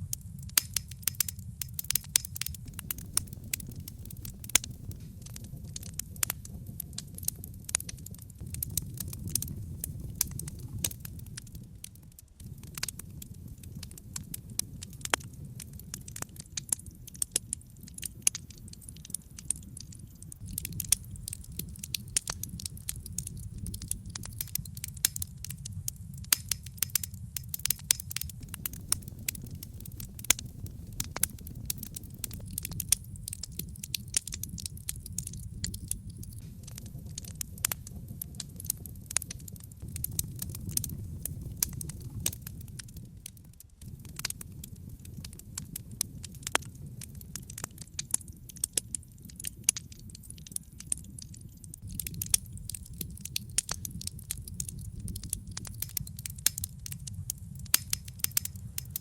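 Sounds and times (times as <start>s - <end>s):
flames rumbling: 0.0s - 59.0s
wood fire crackling and popping: 0.0s - 59.0s.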